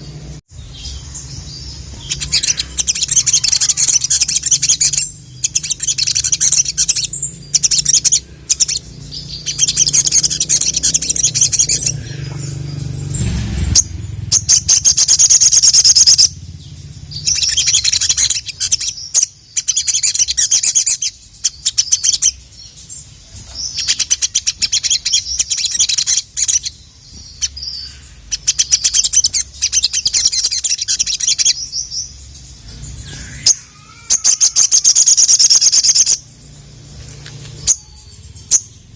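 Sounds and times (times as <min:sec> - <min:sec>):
sunbird rattling chirps: 0:00.0 - 0:38.9.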